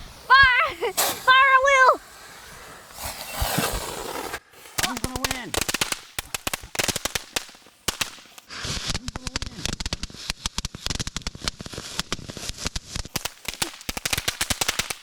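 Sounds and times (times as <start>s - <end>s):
spark hiss: 0.0s - 15.0s
firecracker pops: 2.9s - 15.0s.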